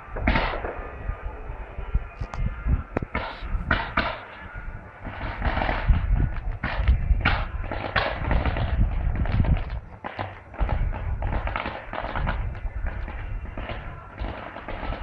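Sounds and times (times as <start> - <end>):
fireworks bangs and crackling: 0.0 - 1.4, 3.0 - 15.0
low rumble of firework launches: 0.0 - 15.0.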